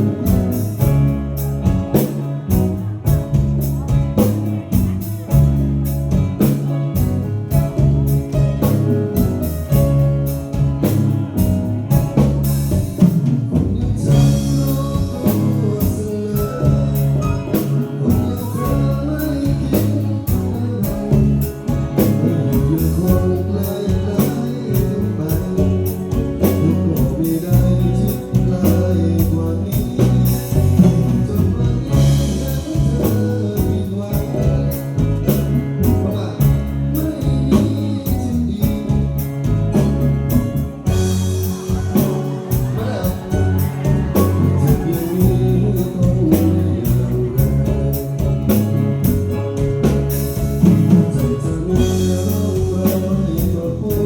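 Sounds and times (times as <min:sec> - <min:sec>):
drum kit beat: 0:00.0 - 0:54.0
live band playing: 0:00.0 - 0:54.0.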